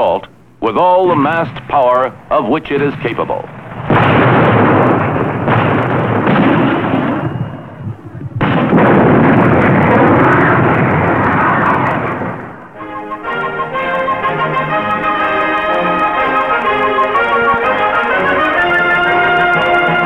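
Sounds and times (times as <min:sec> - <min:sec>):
long rumble of blasts: 0:00.6 - 0:20.0
howitzers firing in volleys: 0:00.7 - 0:20.0.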